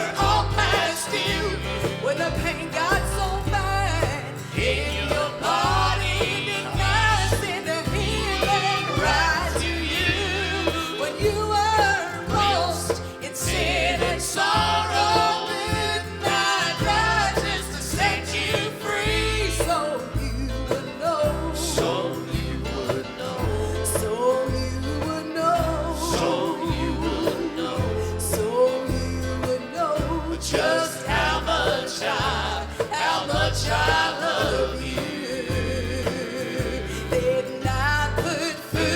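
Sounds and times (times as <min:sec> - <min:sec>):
gospel singing with instruments: 0:00.0 - 0:38.9.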